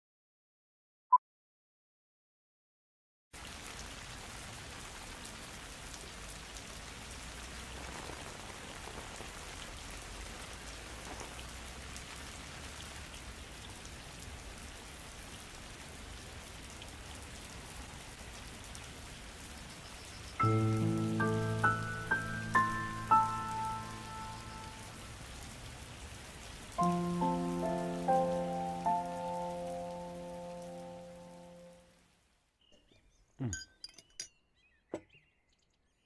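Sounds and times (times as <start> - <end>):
steady rain falling: 3.4 - 32.6.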